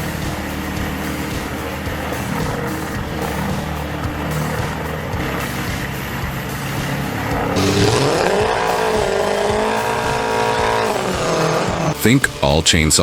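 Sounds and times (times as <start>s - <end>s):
engine revving: 0.0s - 13.0s
large engine running: 0.0s - 13.0s.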